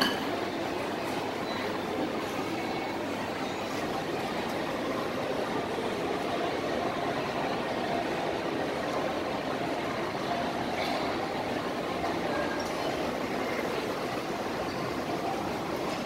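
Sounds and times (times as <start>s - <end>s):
shopping mall crowd hubbub: 0.0s - 16.0s.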